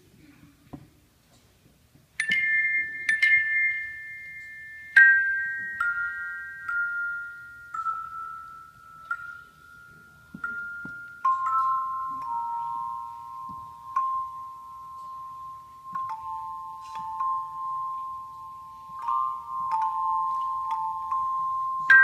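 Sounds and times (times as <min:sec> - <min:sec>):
handchimes ringing a slow melody: 0:02.2 - 0:22.0.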